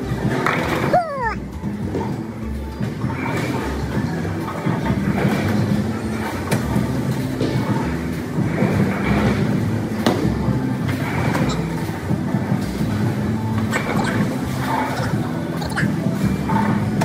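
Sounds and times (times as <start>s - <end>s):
bowling balls rolling: 0.0s - 17.0s.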